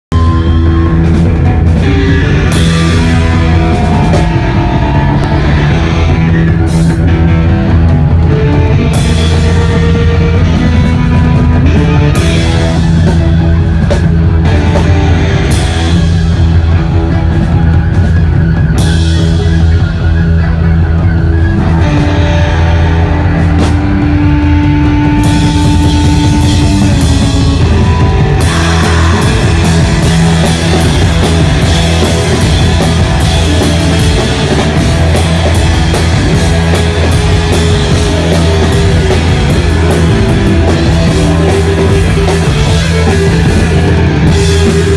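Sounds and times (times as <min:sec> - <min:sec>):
live rock band: 0:00.1 - 0:44.9.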